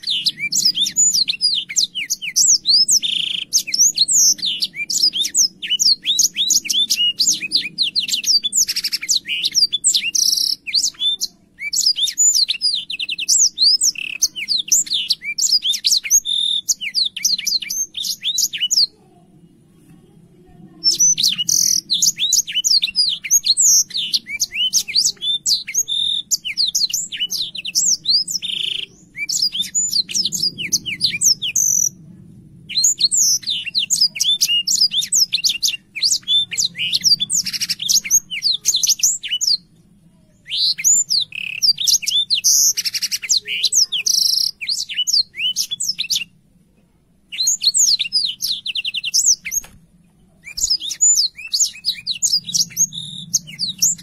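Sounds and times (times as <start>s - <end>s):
canary singing trills: 0.0s - 19.1s, 20.4s - 46.4s, 47.3s - 54.0s.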